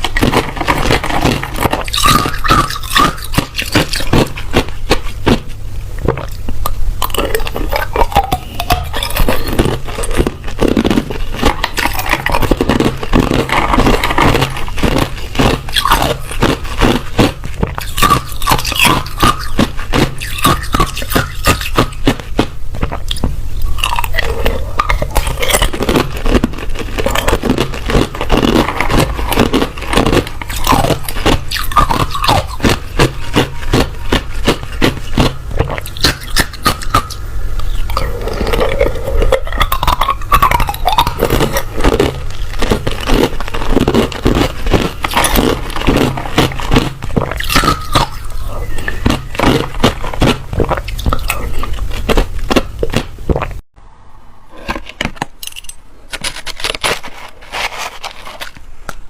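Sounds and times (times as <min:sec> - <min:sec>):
ice crunching between teeth: 0:00.0 - 0:53.6, 0:54.6 - 0:59.0.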